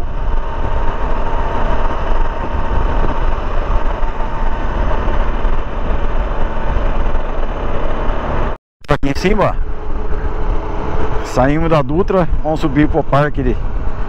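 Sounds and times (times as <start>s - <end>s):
motorcycle engine running: 0.0s - 8.6s, 9.4s - 14.0s
wind rushing on microphone: 0.0s - 8.6s, 9.2s - 14.0s.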